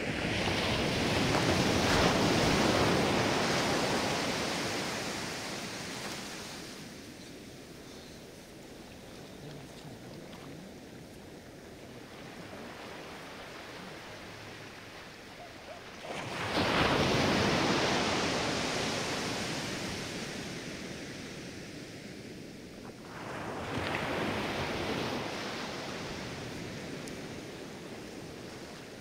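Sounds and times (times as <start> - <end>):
surf hiss: 0.0 - 29.0
waves breaking on sandy beach: 0.0 - 29.0.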